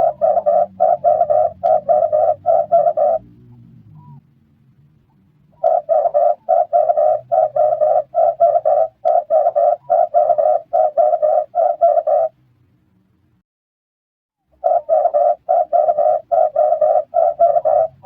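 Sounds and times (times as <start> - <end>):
dove cooing: 0.0 - 4.2, 5.5 - 12.4, 14.6 - 18.0.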